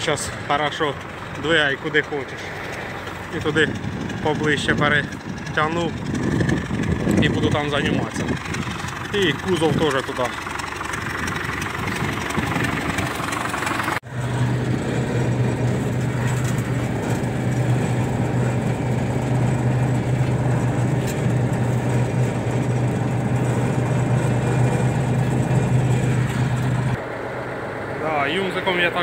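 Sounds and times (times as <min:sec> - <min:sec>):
diesel tractor engine running: 0:00.0 - 0:29.0.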